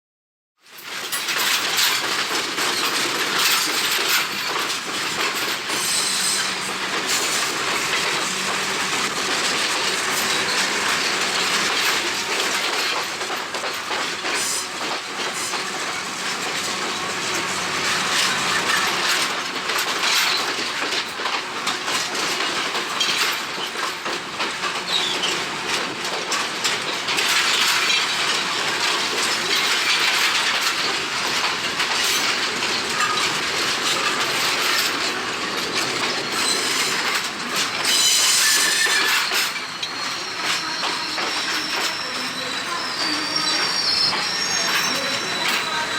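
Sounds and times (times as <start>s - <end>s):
train wheels rattling on track: 0.6s - 45.9s.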